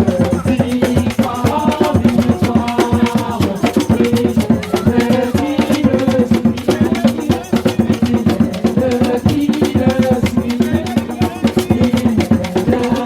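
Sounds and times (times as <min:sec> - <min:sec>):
drum and percussion strokes: 0:00.0 - 0:13.0.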